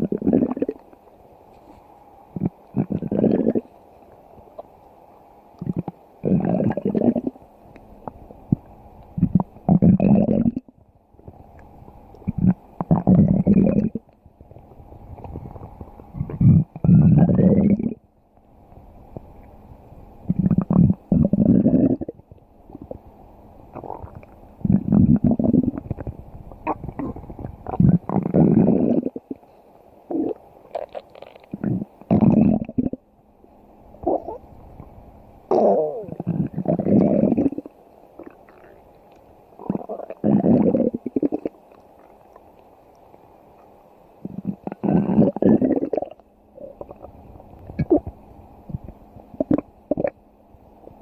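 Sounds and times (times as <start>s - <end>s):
stomach growling and gurgling: 0.0s - 1.0s, 2.3s - 3.7s, 5.6s - 7.4s, 8.0s - 18.0s, 20.2s - 23.1s, 23.7s - 29.5s, 30.1s - 33.1s, 34.0s - 50.2s.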